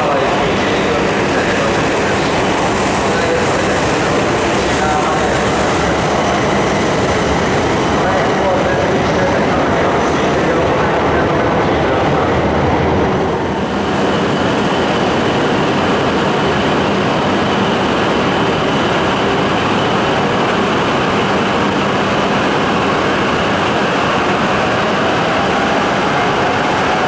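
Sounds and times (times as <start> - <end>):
train rushing past: 0.0 - 27.0.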